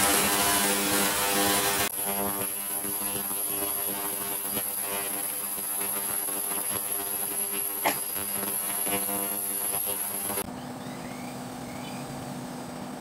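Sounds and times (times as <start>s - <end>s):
loud hiss: 0.0s - 10.4s
electric buzz: 0.0s - 10.5s.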